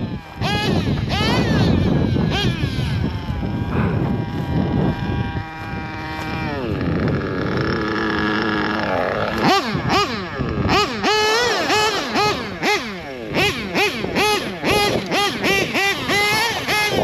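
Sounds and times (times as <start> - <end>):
nitro engine revving: 0.0 - 17.0.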